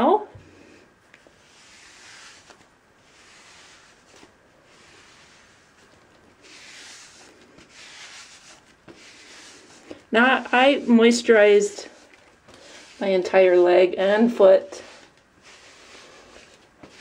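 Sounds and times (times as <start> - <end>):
mitt swishing over skin: 1.2 - 13.6, 14.2 - 17.0.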